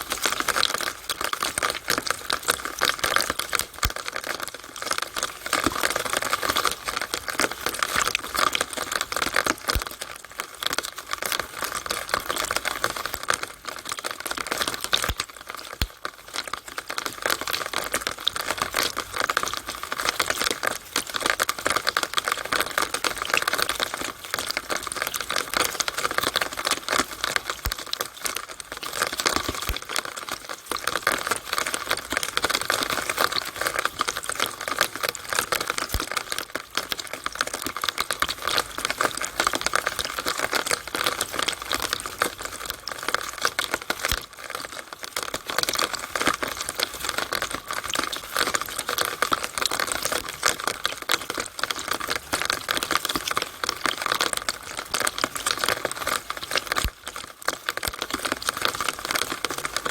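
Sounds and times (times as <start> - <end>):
rainwater dripping in a downspout: 0.0 - 59.9.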